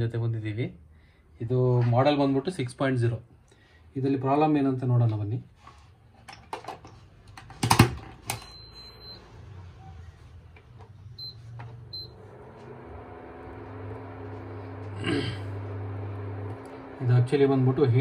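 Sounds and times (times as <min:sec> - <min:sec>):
cooktop electrical hum: 0:00.0 - 0:18.0.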